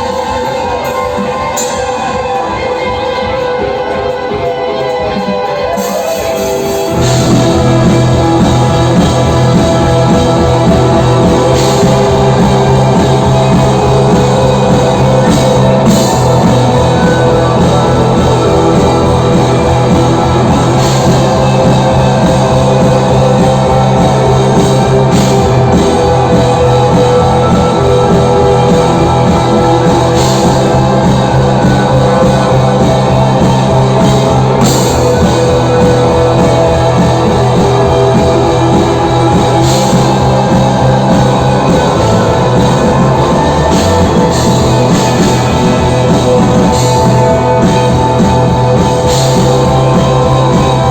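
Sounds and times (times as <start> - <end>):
rock band playing live: 0.0 - 50.9.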